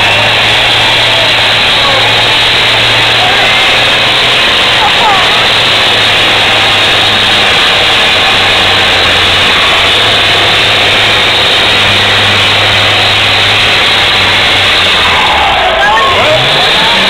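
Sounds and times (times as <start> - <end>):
diesel tractor engine roaring: 0.0 - 17.0.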